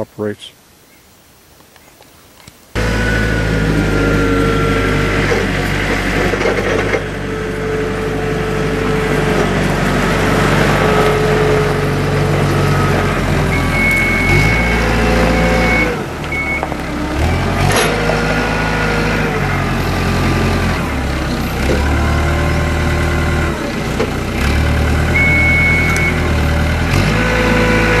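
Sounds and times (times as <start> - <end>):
diesel engine running: 2.8 - 28.0.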